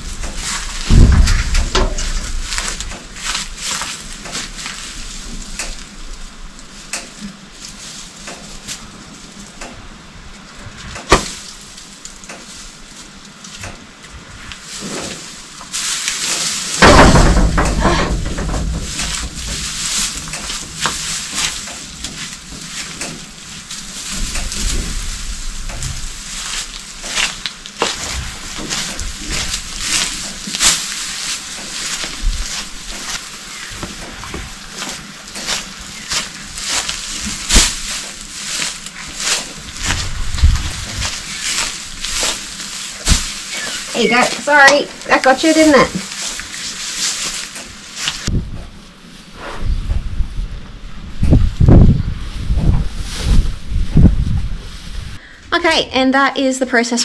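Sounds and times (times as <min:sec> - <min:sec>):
dry hay crackling and rustling: 0:00.0 - 0:57.0.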